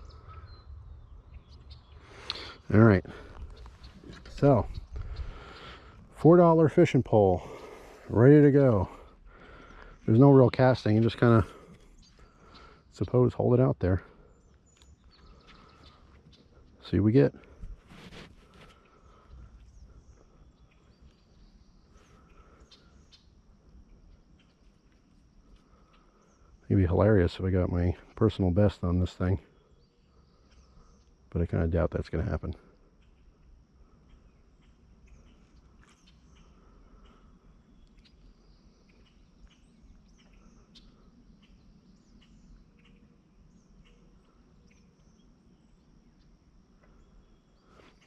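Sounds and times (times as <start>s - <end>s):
bird chirps: 0.0s - 31.4s, 32.6s - 48.0s
insect drone: 0.0s - 48.0s.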